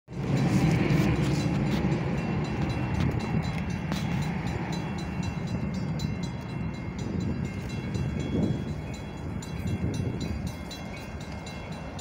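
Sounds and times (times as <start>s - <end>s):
train rumble: 0.1s - 12.0s.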